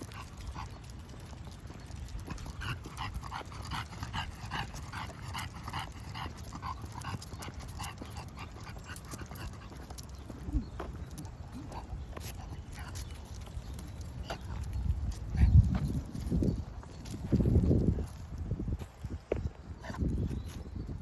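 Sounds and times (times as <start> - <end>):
dog panting: 0.0 - 17.2.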